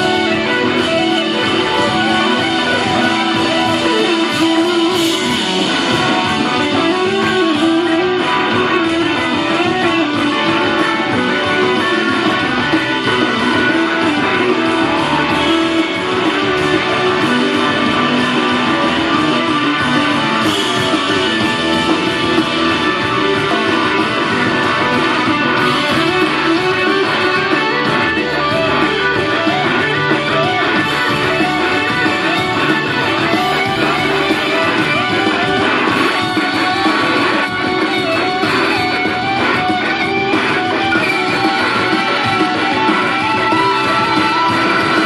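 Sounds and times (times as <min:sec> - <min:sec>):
electric guitar: 0:00.0 - 0:45.0
live band music: 0:00.0 - 0:45.0.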